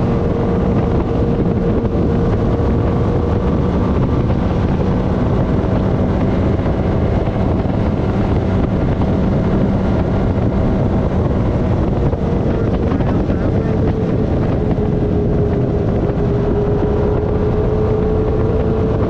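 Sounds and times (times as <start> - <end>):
atv engine running: 0.0 - 19.0
wind buffeting microphone: 0.0 - 19.0.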